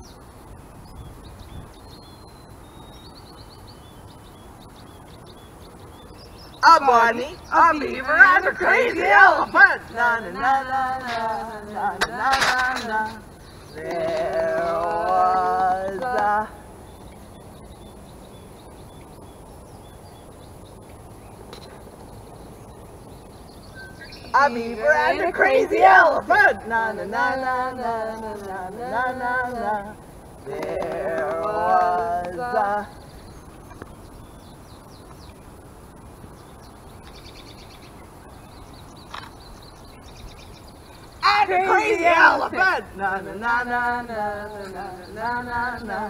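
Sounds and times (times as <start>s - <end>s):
low background hiss: 0.0s - 46.0s
low outdoor rumble: 0.0s - 46.0s
small birds chirping: 0.0s - 46.0s.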